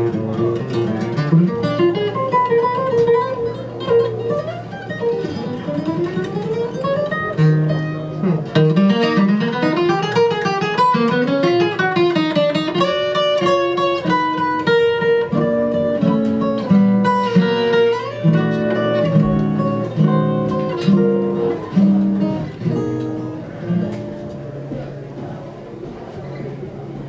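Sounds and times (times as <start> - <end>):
acoustic guitar jazz tune: 0.0 - 27.0.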